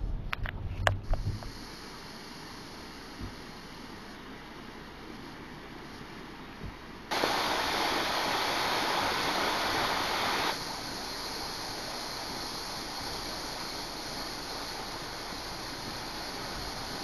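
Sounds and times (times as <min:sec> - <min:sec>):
loud rushing hiss: 0:01.0 - 0:06.5, 0:07.1 - 0:17.0.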